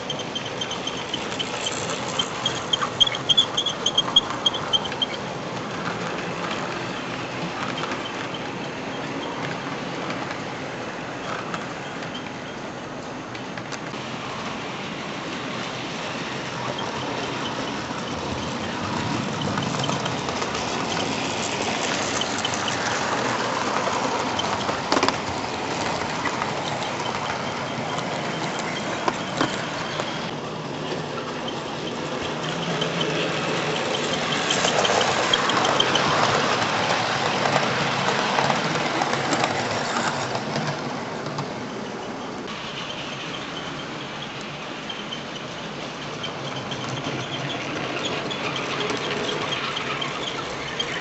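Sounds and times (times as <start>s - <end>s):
model train rattle and whirr: 0.0s - 51.0s
sharp clicks of train: 0.0s - 51.0s.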